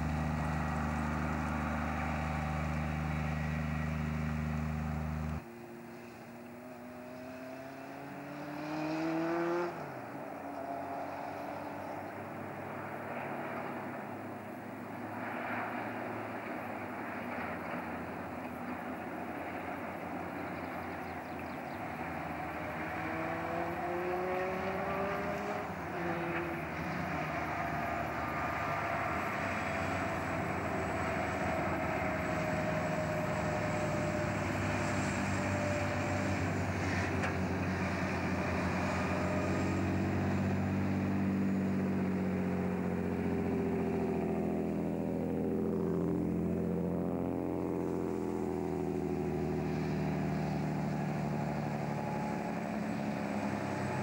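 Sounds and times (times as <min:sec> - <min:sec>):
truck diesel engines running: 0:00.0 - 0:08.2, 0:09.5 - 0:54.0.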